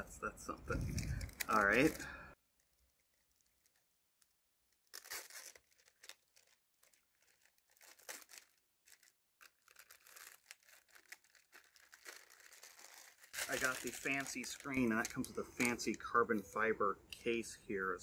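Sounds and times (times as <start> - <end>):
plastic bag rustling: 0.7 - 16.1.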